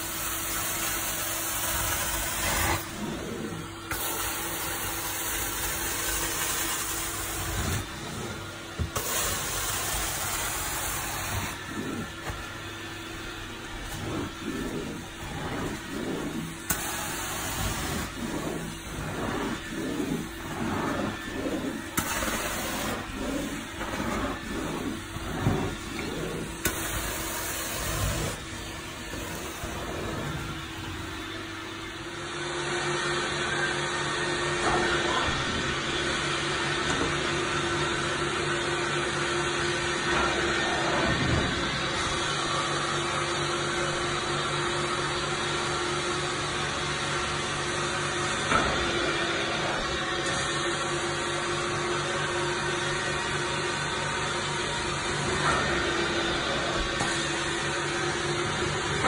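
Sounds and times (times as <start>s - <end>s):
carpet extraction vacuum running: 0.0s - 59.0s.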